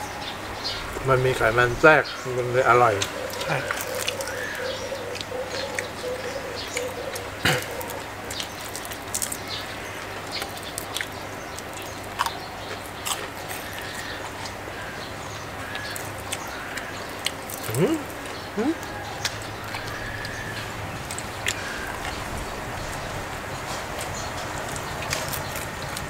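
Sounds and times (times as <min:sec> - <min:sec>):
birds calling: 0:00.0 - 0:26.0
crunching and chewing crispy food: 0:02.9 - 0:26.0.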